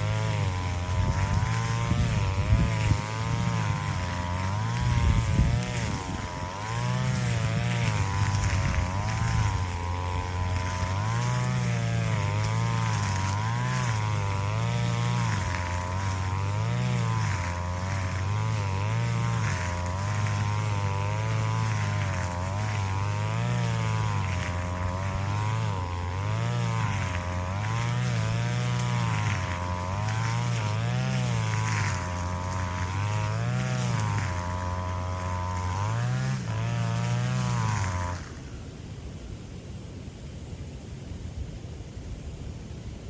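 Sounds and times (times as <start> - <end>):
grass cutter engine running: 0.0 - 38.7.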